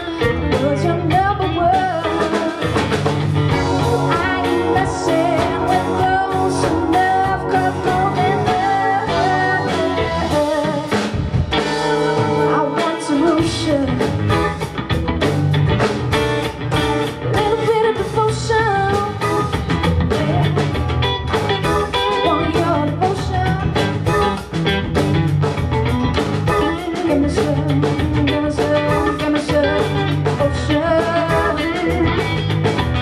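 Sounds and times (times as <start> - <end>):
woman singing: 0.0 - 14.8, 17.3 - 20.8, 21.6 - 24.4, 26.5 - 32.6
drum kit: 0.0 - 33.0
electric and acoustic guitars: 0.0 - 33.0.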